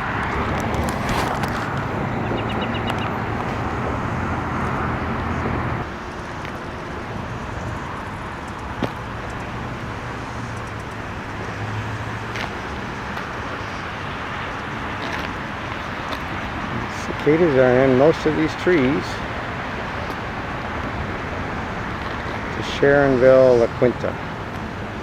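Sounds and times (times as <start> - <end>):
low engine hum: 0.0 - 25.0
road traffic noise: 0.0 - 25.0.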